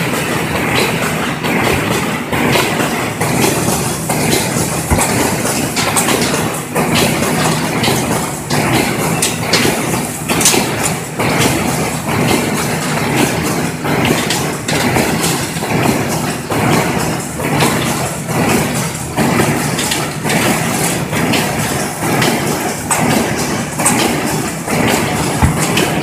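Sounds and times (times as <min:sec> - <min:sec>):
machine humming: 0:00.0 - 0:26.0
machine knocking and clatter: 0:00.0 - 0:26.0.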